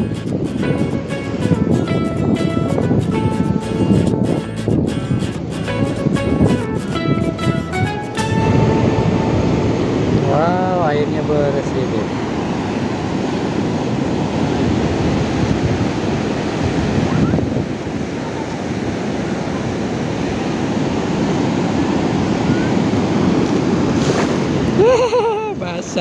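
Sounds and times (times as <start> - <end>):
waves washing on beach: 0.0 - 26.0
wind on microphone: 0.0 - 26.0.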